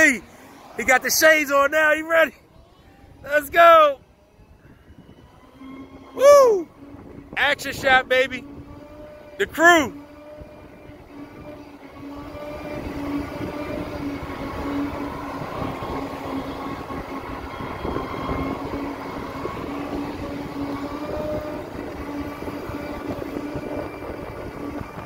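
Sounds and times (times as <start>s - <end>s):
wheels rolling on concrete: 0.0s - 25.0s
electric motor whine: 2.4s - 25.0s.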